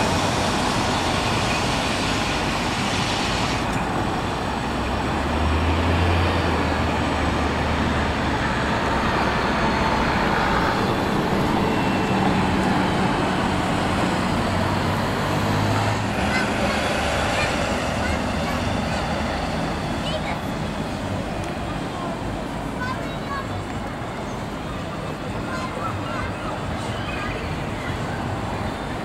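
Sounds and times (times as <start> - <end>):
street traffic: 0.0 - 29.0
tram running past: 0.0 - 29.0.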